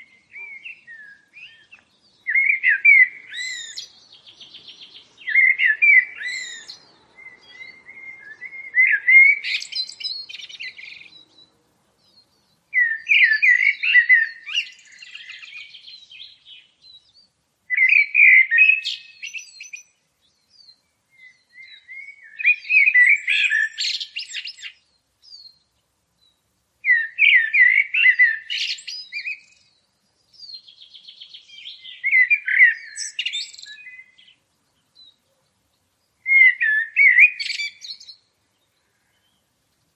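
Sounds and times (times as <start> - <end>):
songbird warbling and twittering: 0.0 - 39.9.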